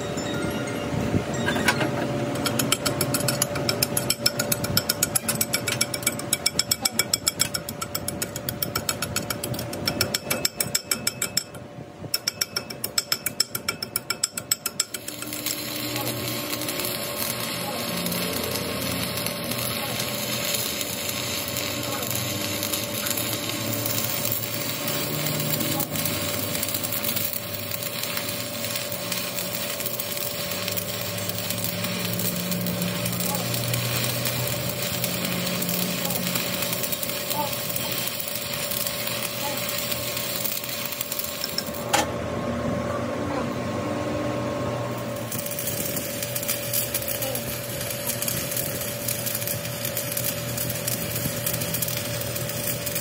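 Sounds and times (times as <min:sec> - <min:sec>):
machine running with constant hum: 0:00.0 - 0:53.0.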